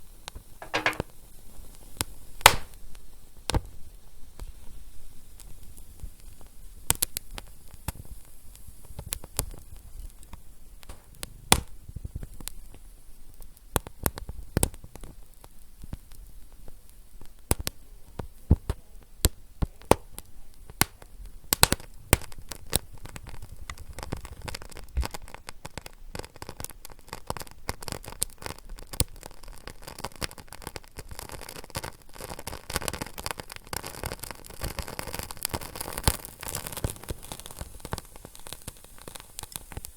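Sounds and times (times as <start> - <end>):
fire crackling and popping: 0.6 - 39.9.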